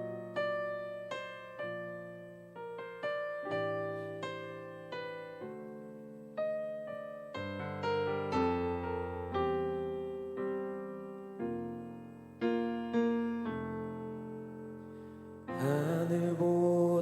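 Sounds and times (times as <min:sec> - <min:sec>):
slow gentle piano: 0:00.0 - 0:17.0.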